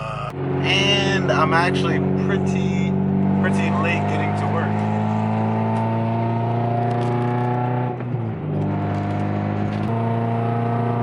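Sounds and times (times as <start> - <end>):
car exhaust droning: 0.0 - 11.0.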